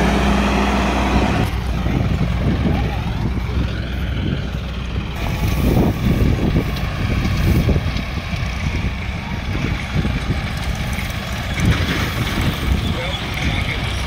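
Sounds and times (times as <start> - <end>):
diesel engines rumbling: 0.0 - 14.0.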